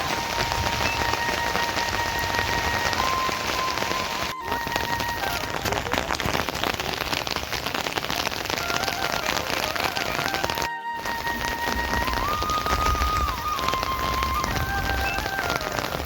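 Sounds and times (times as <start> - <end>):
faint held musical tones: 0.0 - 5.9, 8.7 - 16.0
heavy rain: 0.0 - 16.0.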